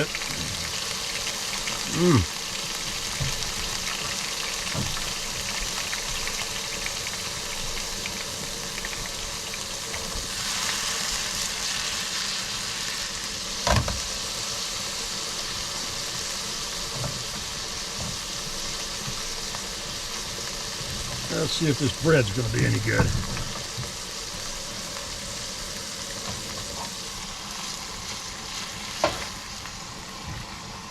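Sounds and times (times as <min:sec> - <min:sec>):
food sizzling in a pan: 0:00.0 - 0:30.9.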